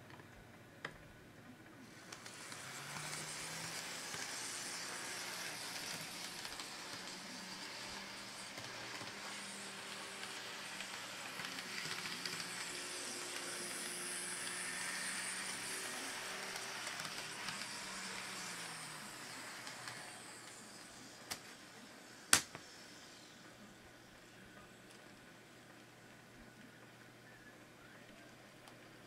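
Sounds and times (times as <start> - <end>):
model train running on track: 1.8 - 28.3.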